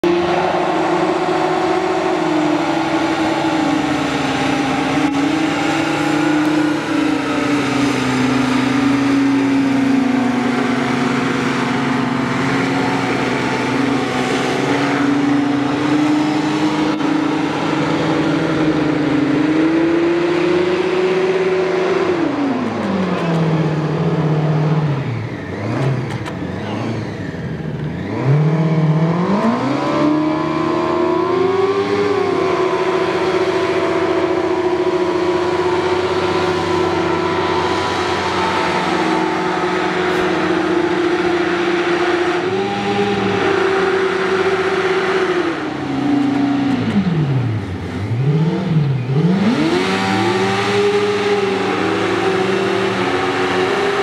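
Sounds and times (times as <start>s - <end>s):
hovercraft engine and fan drone: 0.0s - 54.0s.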